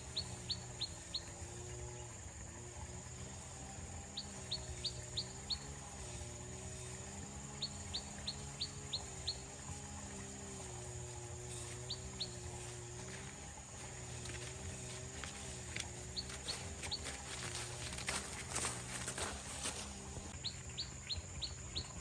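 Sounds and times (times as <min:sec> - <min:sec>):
bird chirping: 0:00.0 - 0:01.7, 0:03.9 - 0:22.0.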